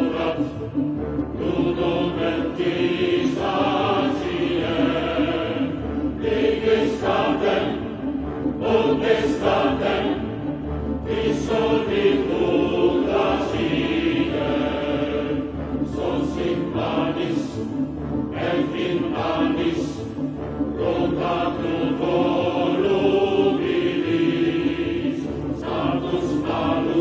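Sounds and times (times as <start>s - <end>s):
voices chanting in chorus: 0.0s - 27.0s.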